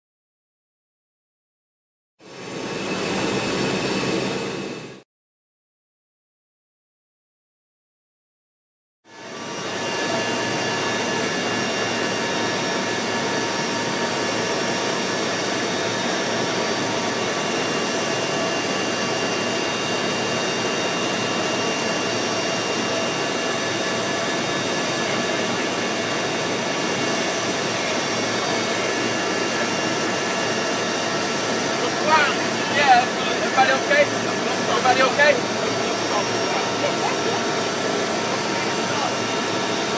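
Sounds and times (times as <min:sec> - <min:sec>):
aircraft cabin engine rush: 0:02.2 - 0:05.0, 0:09.1 - 0:39.9.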